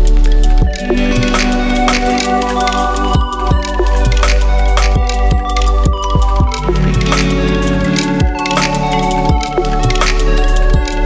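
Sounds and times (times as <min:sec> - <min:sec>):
background music with a beat: 0:00.0 - 0:11.0.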